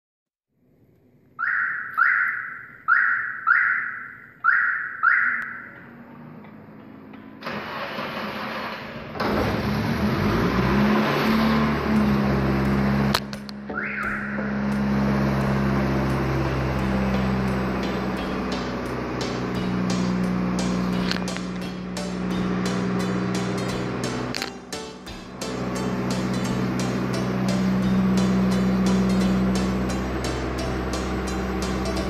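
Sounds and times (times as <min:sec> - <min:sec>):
car engine starting and running: 0:00.6 - 0:32.0.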